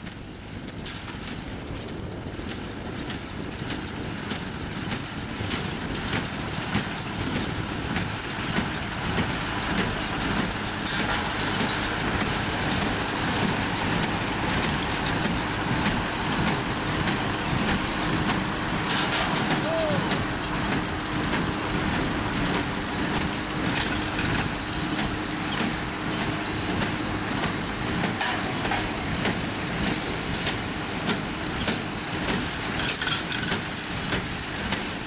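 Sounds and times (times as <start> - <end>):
baler mechanical clatter: 0.0 - 35.0
steady engine: 0.0 - 35.0.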